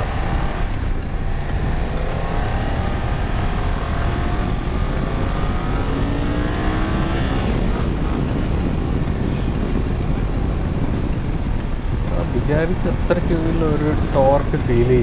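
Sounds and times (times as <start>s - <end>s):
motorcycle engine revving: 0.0s - 15.0s
wind rush on microphone: 0.0s - 15.0s.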